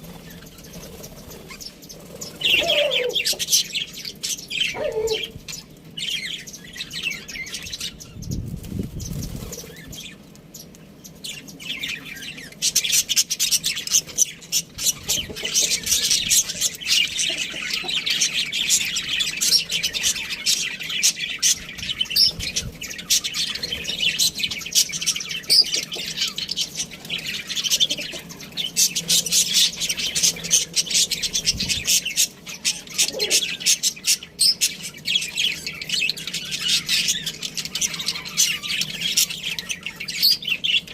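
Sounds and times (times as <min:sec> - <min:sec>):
budgies chirping and chattering: 0:00.0 - 0:40.9.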